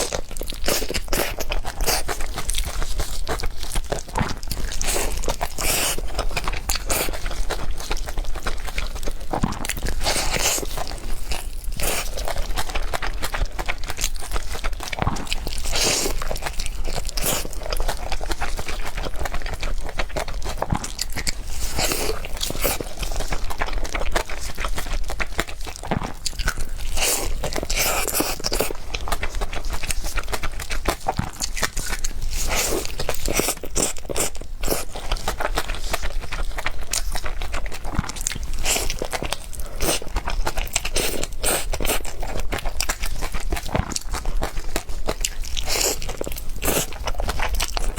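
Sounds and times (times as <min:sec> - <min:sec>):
person chewing and crunching: 0:00.0 - 0:47.9.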